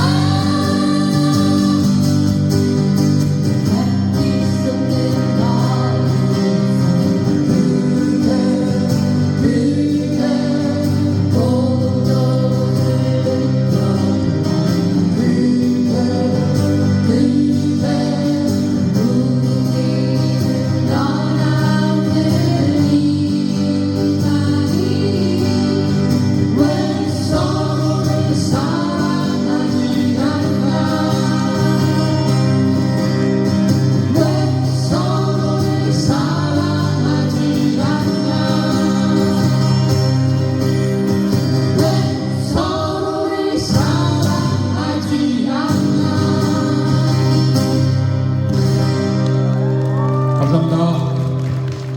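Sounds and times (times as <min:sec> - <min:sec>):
voices singing together: 0:00.0 - 0:48.6
strummed acoustic guitars: 0:00.0 - 0:51.9.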